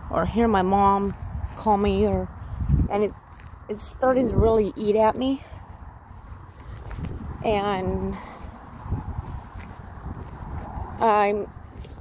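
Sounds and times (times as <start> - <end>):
walking and handling rumble: 0.0 - 12.0.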